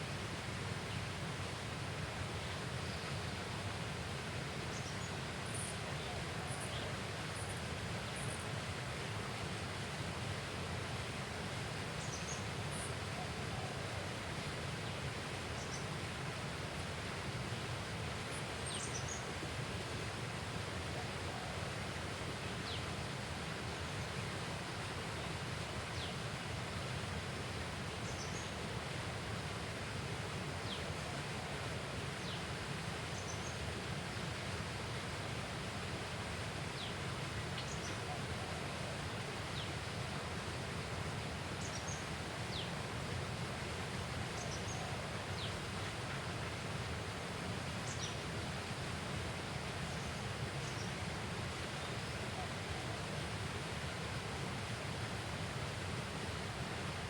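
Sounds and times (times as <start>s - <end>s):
steady outdoor hiss: 0.0s - 57.0s.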